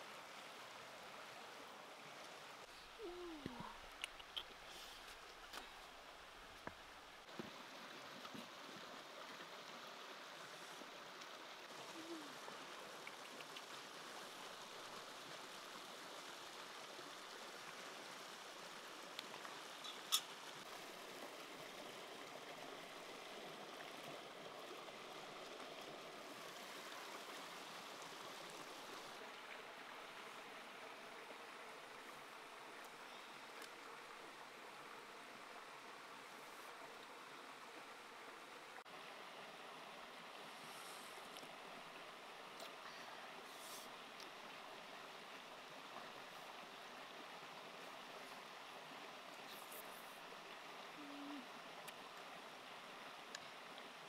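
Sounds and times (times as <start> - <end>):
stream running water: 0.0 - 54.0.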